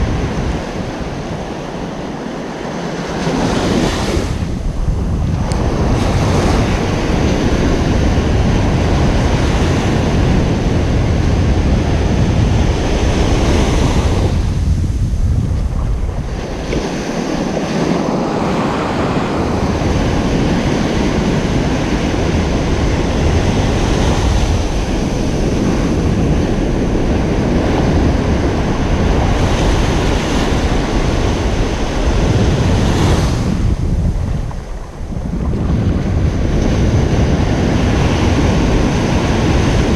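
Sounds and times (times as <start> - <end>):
low wind rumble on microphone: 0.0 - 39.9
ocean surf breaking: 0.0 - 39.9.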